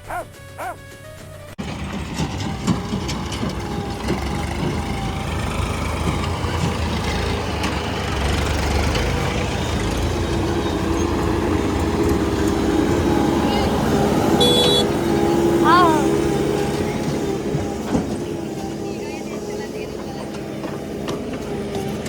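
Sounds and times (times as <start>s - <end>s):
diesel engine running: 1.6s - 22.0s.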